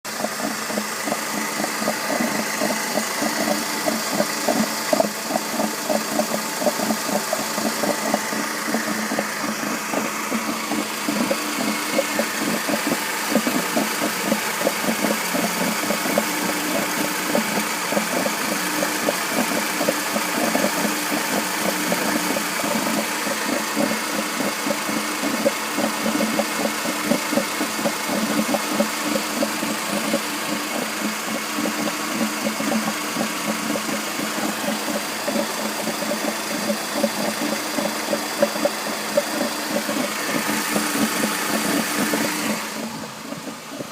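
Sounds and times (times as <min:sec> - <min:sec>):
car engine idling: 0:00.0 - 0:43.9
fast even knocking: 0:00.1 - 0:43.9.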